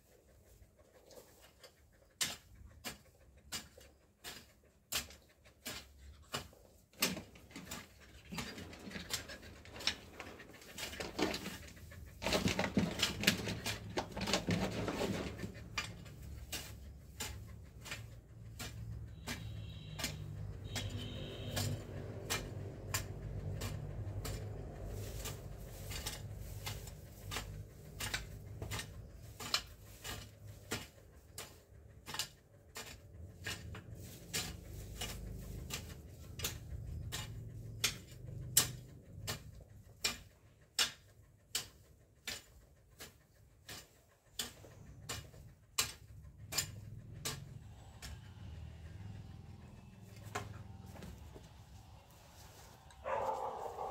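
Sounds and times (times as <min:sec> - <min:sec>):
hand tool chopping soil: 0:00.0 - 0:53.9.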